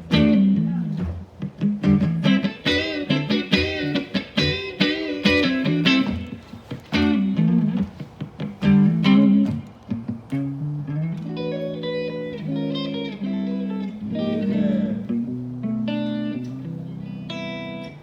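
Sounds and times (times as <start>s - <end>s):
guitar playing: 0.0s - 18.0s.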